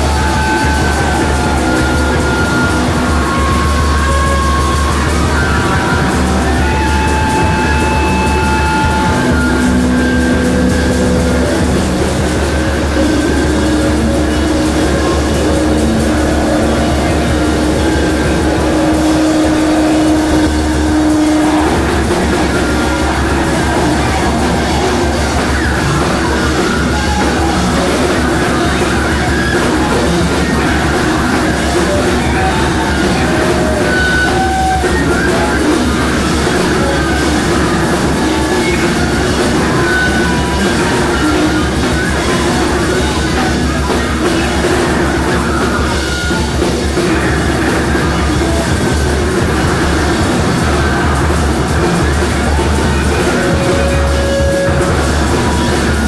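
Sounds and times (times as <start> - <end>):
held steady tone: 0.0 - 56.0
noise music guitars and drums: 0.0 - 56.0.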